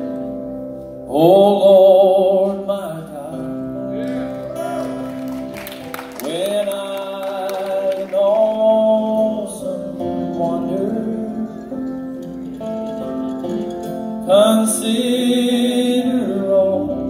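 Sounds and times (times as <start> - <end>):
acoustic guitar: 0.0 - 17.0
bass: 0.0 - 17.0
keyboard: 0.0 - 17.0.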